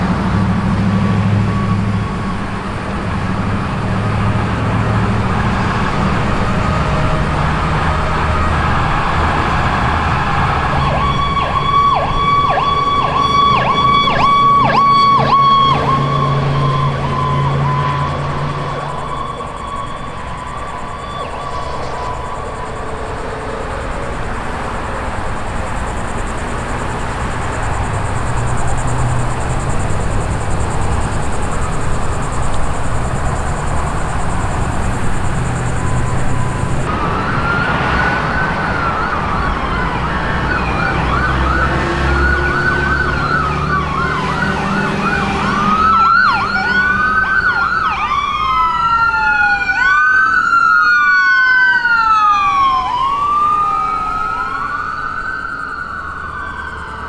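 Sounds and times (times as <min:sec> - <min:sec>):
siren wailing: 0:00.0 - 0:57.0
traffic rumble: 0:00.0 - 0:57.0
siren with quick sweeps: 0:05.4 - 0:57.0.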